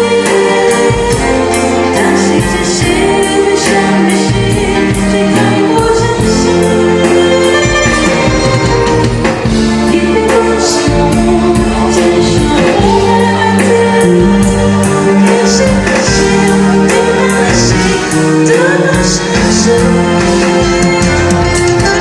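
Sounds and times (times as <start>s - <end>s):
singing over percussion beat: 0.0s - 22.0s.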